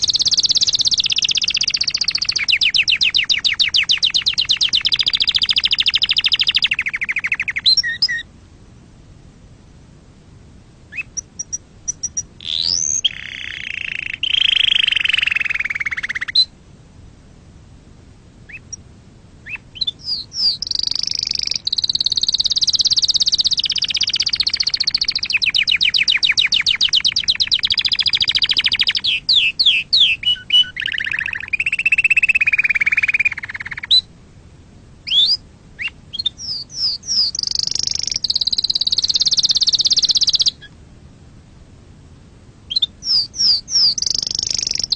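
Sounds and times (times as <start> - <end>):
canary singing trills: 0.0 - 8.3, 10.9 - 16.6, 18.4 - 18.8, 19.4 - 34.1, 35.0 - 40.8, 42.7 - 44.9.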